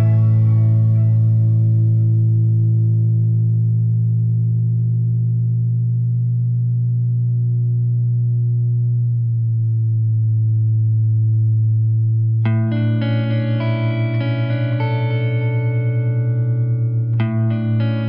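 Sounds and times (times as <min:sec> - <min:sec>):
low drone tone: 0:00.0 - 0:18.0.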